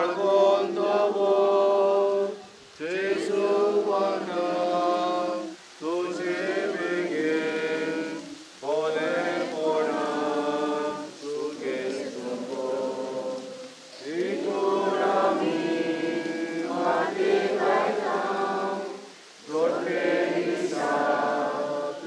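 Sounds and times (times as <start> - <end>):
group chanting a prayer: 0.0 - 22.0.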